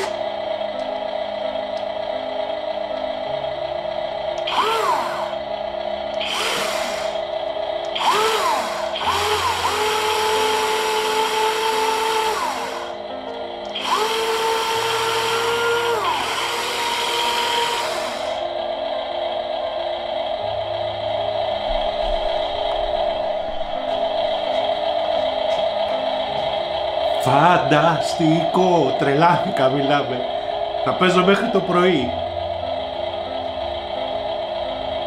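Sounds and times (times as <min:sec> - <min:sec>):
electric motors whining: 0:00.0 - 0:35.0.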